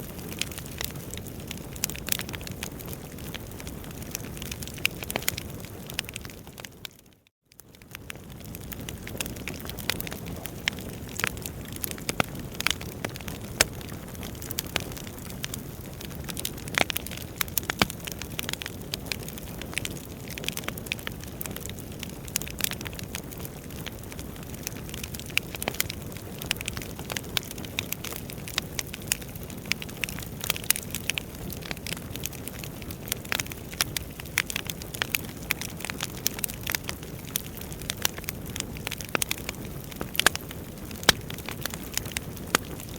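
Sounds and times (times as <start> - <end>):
logs crackling and popping: 0.0 - 42.9
rumble of flames: 0.0 - 42.9.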